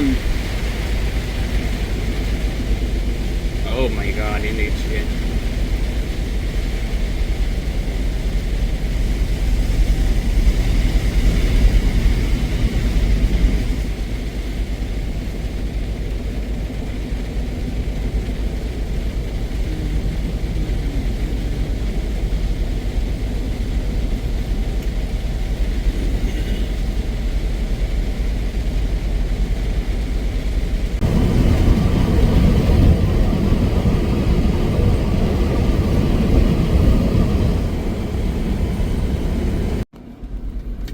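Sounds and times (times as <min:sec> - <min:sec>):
heavy truck rumbling: 0:00.0 - 0:40.9.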